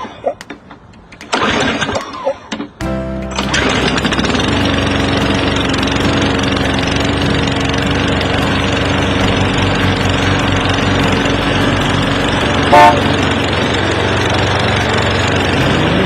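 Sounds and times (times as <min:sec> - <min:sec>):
lawn mower engine running: 0:02.8 - 0:16.0.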